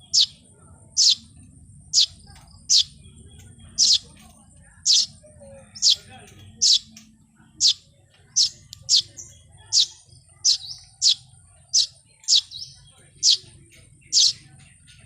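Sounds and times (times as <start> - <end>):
fainter bird calls: 0.0 - 15.0.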